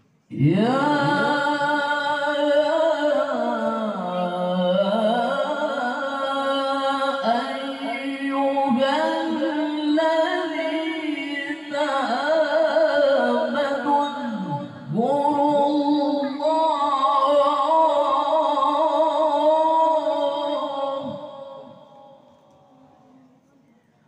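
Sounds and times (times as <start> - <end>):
man reciting melodically into microphone: 0.2 - 22.4.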